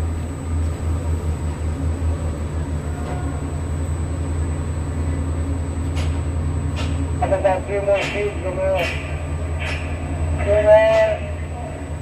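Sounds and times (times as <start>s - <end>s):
crane machinery hum: 0.0s - 12.0s.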